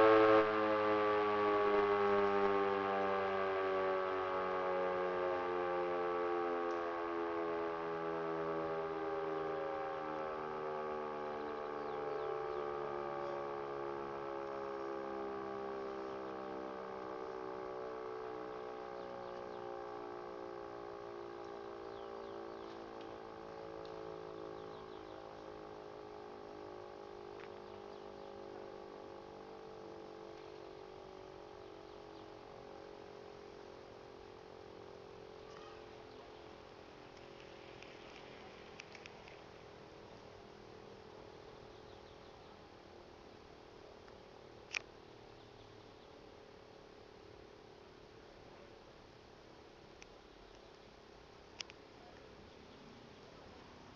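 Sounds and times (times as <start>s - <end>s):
motor siren winding down: 0.0s - 44.0s.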